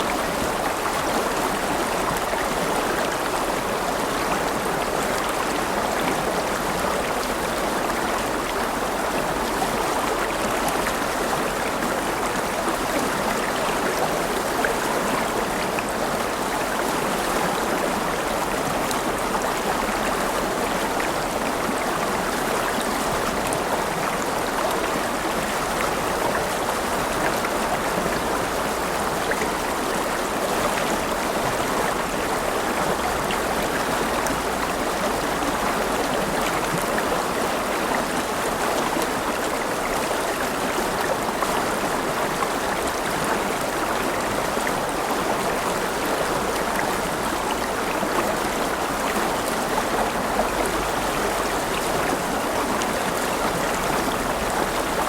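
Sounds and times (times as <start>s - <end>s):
river water babbling over stones: 0.0s - 55.0s.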